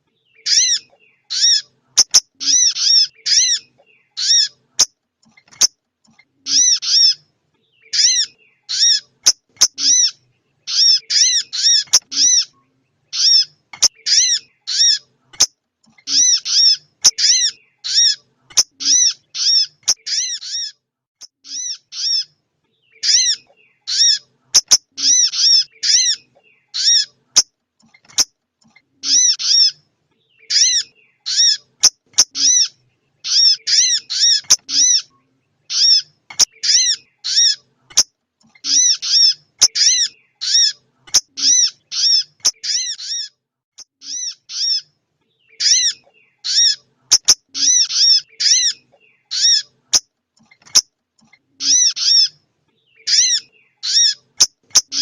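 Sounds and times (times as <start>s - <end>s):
bird high chip calls: 0.2s - 27.5s, 28.1s - 38.0s, 38.6s - 50.0s, 51.4s - 55.0s.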